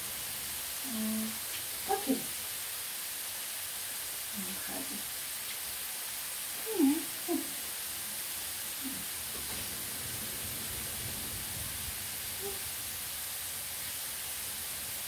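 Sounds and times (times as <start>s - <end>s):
chips sizzling in oil: 0.0s - 15.0s.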